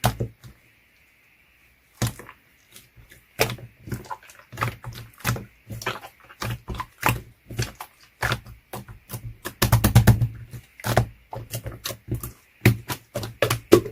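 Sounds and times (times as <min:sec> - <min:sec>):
slime squishing with clicking pops: 0:02.0 - 0:13.9.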